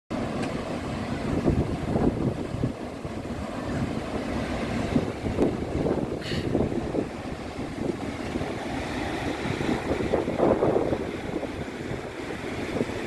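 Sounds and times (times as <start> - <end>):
surf breaking and washing ashore: 0.1 - 13.0
wind gusting against microphone: 0.2 - 13.0.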